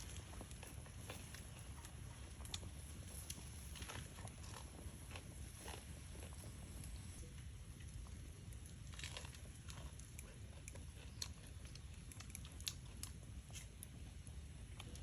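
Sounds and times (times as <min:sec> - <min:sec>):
person chewing and crunching: 0:00.0 - 0:07.0, 0:08.6 - 0:13.8
steady low rumble: 0:00.0 - 0:15.0.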